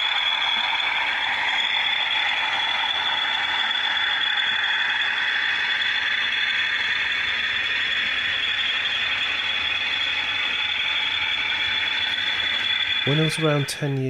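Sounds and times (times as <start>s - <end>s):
high whine: 0.0s - 14.0s
model train wheels whirring and rattling: 0.0s - 14.0s.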